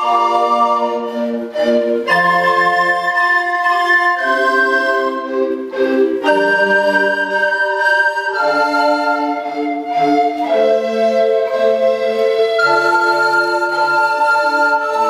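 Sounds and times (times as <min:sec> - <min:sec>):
recorder ensemble playing chords: 0:00.0 - 0:15.0.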